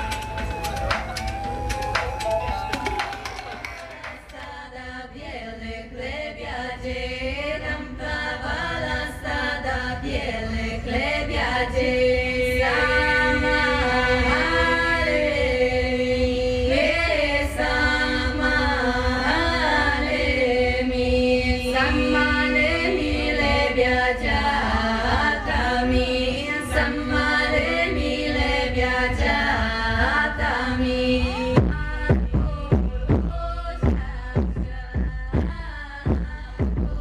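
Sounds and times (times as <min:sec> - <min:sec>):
women singing in harmony: 0:03.5 - 0:37.0.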